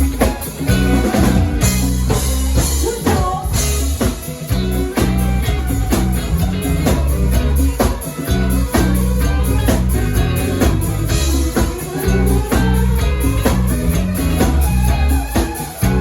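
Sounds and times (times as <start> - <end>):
bass notes: 0.0 - 16.0
drum kit beat: 0.0 - 16.0
guitar: 0.0 - 16.0.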